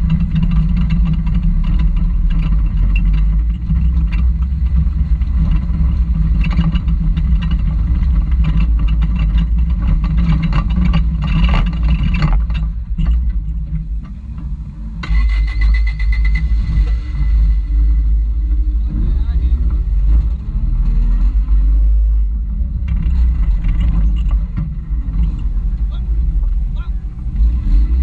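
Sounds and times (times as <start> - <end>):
buggy engine running low: 0.0 - 28.0
tires clattering on rock: 0.0 - 28.0.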